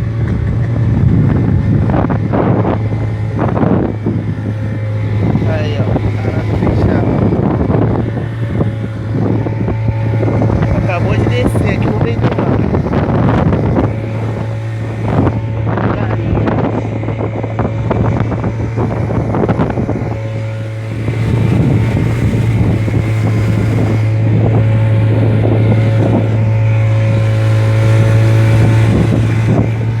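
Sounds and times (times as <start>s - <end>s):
motorboat engine humming: 0.0s - 30.0s
wind buffeting microphone: 0.0s - 30.0s.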